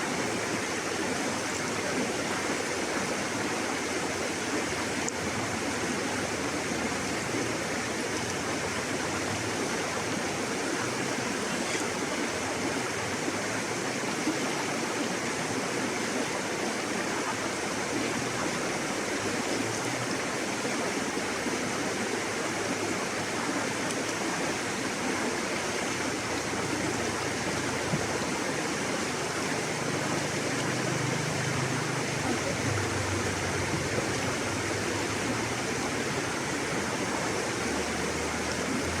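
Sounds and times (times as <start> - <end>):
river water rushing over rocks: 0.0 - 39.0.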